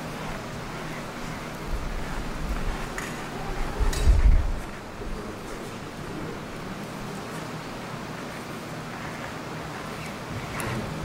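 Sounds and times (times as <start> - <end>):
room tone hiss and rumble: 0.0 - 11.0.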